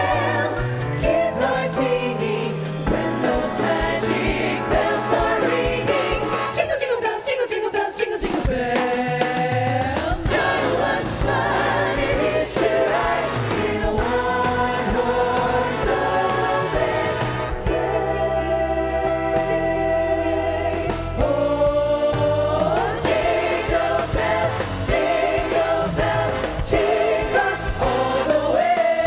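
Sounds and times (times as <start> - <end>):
regular percussion: 0.0 - 6.7, 8.2 - 29.0
choir singing in harmony: 0.0 - 29.0.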